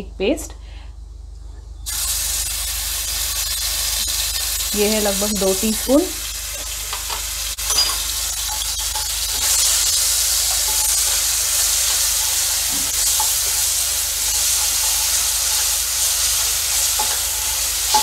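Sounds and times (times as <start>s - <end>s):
paste sizzling in hot oil: 1.9s - 18.0s.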